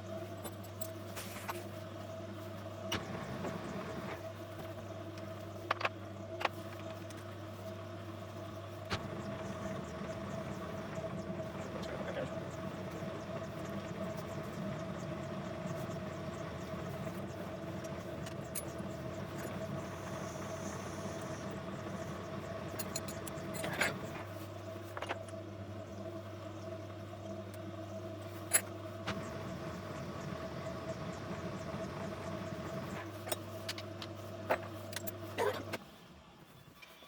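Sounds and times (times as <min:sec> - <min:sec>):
motor hum: 0:00.0 - 0:37.0
deeper hum: 0:01.3 - 0:35.8.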